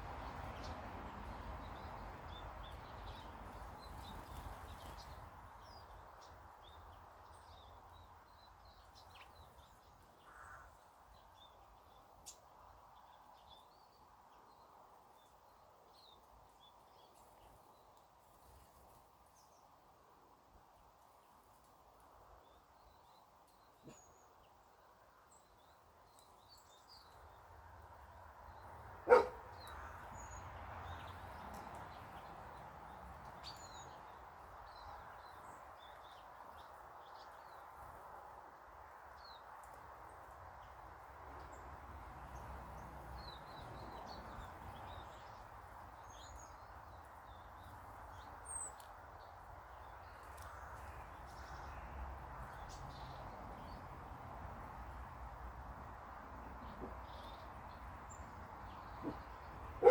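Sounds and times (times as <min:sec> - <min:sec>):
small birds chirping: 0:00.0 - 0:19.8, 0:20.7 - 0:27.6, 0:28.4 - 0:38.2, 0:39.0 - 0:54.2, 0:56.1 - 0:59.9.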